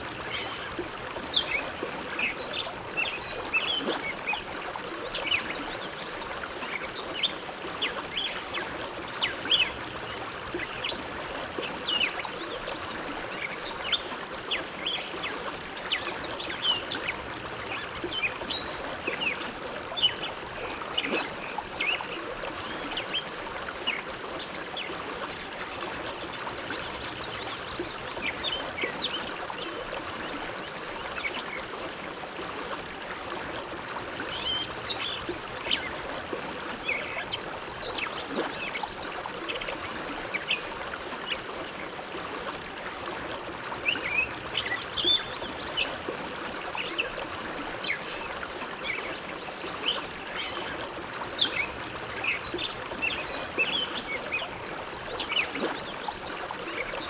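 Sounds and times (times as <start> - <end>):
water splashing and gurgling: 0.0 - 57.0.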